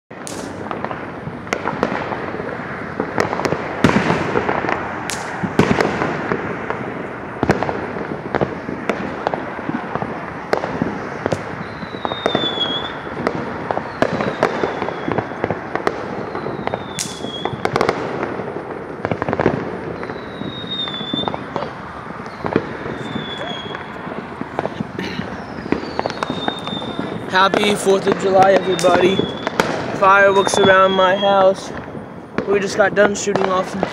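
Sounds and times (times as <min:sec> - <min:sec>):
falling firework whistle: 0:00.1 - 0:32.5
fireworks popping and crackling: 0:00.1 - 0:33.9
loud firework bangs: 0:00.1 - 0:33.9.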